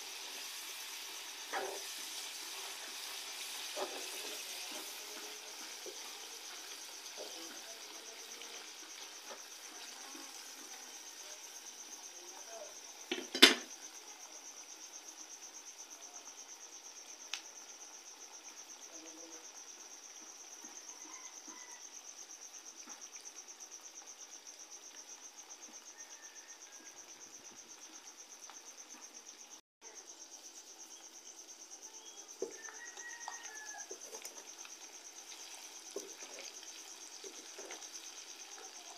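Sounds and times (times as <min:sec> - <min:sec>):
crickets trilling: 0:00.0 - 0:38.9
faint sizzle of frying curry: 0:00.0 - 0:38.9.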